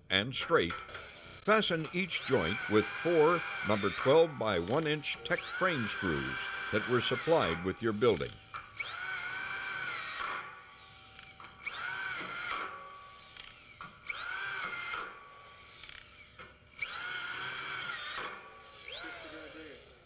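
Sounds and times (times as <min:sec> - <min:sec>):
power drill motor whine: 0:00.9 - 0:20.0.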